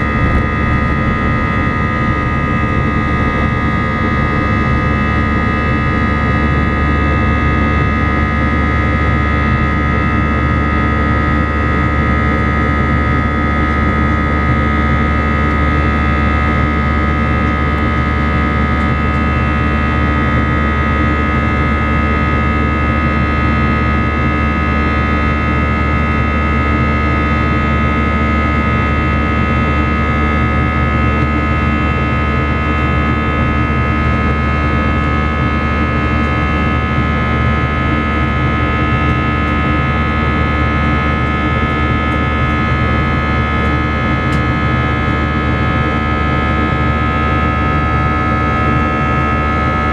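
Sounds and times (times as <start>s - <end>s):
jet engine cabin rumble: 0.0s - 49.9s
steady engine whine: 0.0s - 49.9s.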